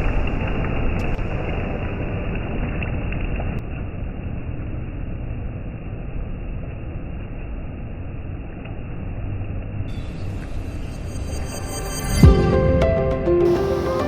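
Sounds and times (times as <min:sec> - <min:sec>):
sea surf on a beach: 0:00.0 - 0:10.8, 0:12.4 - 0:14.0.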